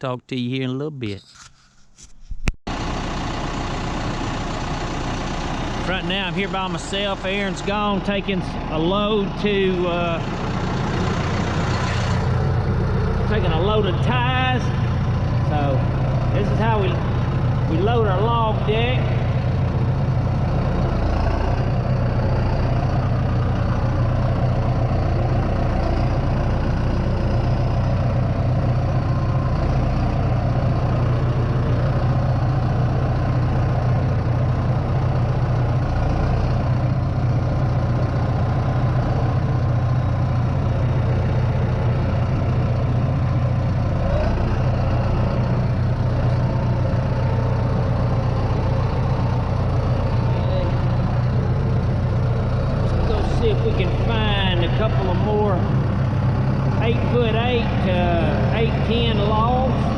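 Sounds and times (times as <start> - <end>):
heavy engine running: 2.7 - 59.9.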